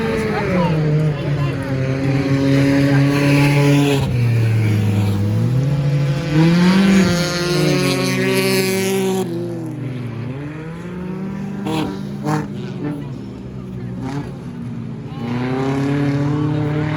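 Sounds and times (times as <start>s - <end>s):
stock car engines passing: 0.0s - 16.9s.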